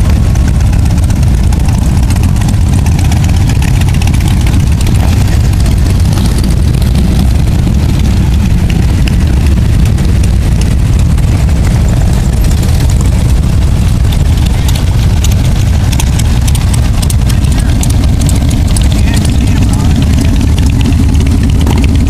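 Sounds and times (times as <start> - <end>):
motorcycles rumbling past: 0.0 - 22.0.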